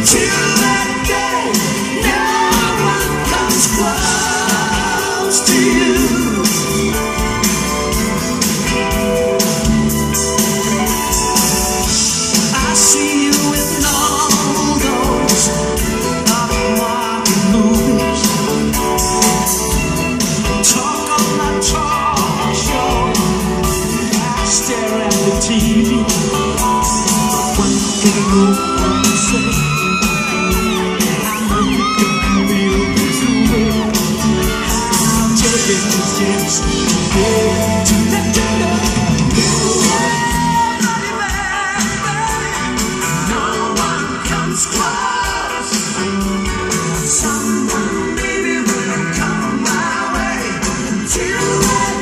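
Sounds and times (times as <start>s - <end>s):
man singing long notes: 0.0s - 7.3s, 12.4s - 18.8s, 20.6s - 52.0s
live pop-rock band playing: 0.0s - 52.0s.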